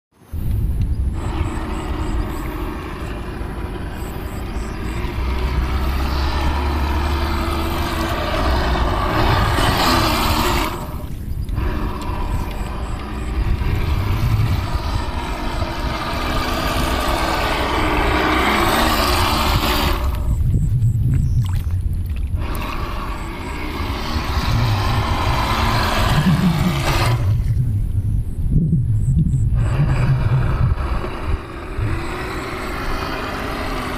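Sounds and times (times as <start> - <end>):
model boat motor running: 0.4 - 20.9, 21.6 - 28.5, 29.4 - 33.9
hull hissing through water: 1.0 - 20.5, 21.5 - 28.0, 29.5 - 33.9.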